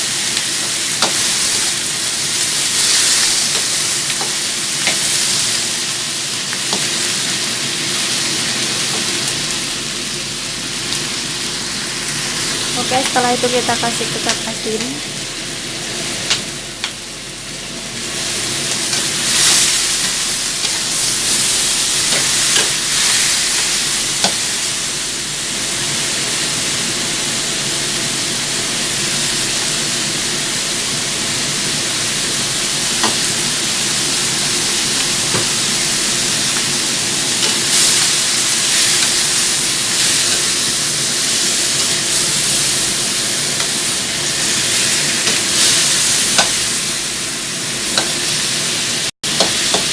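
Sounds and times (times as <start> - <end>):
chicken sizzling in oil: 0.0 - 49.9.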